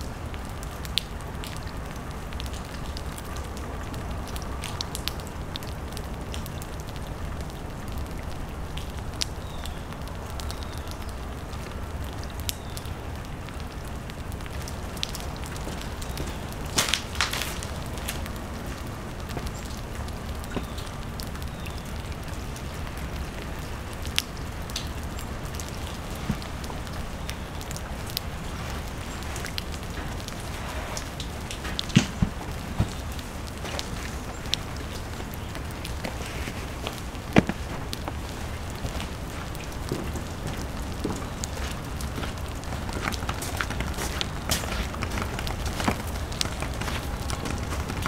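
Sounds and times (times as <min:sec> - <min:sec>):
small drips and ticks: 0:00.0 - 0:48.0
steady rain: 0:00.0 - 0:48.0.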